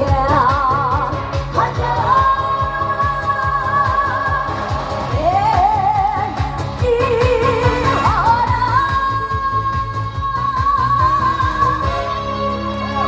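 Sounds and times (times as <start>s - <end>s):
pop backing track with beat: 0.0s - 13.0s
woman singing with vibrato: 0.0s - 13.0s.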